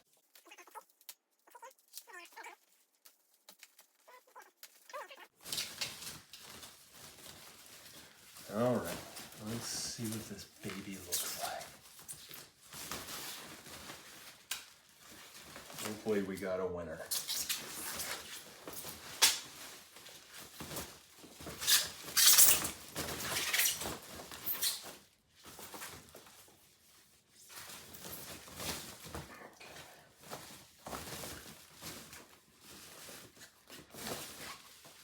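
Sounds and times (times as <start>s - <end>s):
packaging rustling and crinkling: 0.0s - 35.0s.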